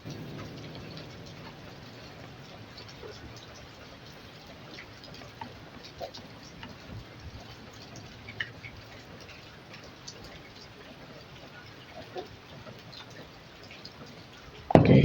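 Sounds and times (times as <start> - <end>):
faint clicks and light taps: 0.1 - 15.0.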